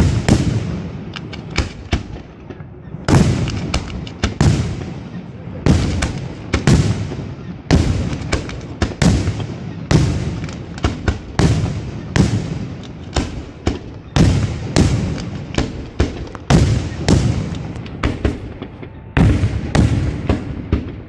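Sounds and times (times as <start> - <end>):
firework shells booming: 0.0 - 21.0
sharp firework cracks: 0.0 - 21.0.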